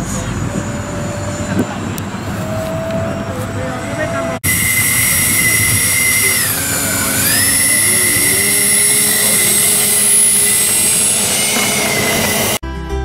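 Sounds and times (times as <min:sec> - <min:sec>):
electric ducted fans whining: 0:00.0 - 0:12.6.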